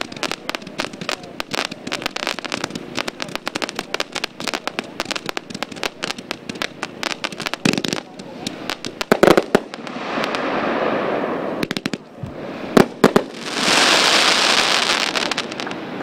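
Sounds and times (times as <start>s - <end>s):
rapid firework pops: 0.0s - 10.4s, 11.6s - 12.1s, 12.8s - 15.8s
loud firework report: 0.0s - 16.0s.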